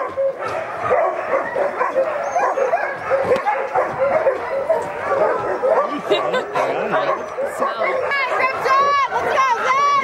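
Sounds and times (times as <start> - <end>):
sled dogs barking and crying: 0.0 - 10.0.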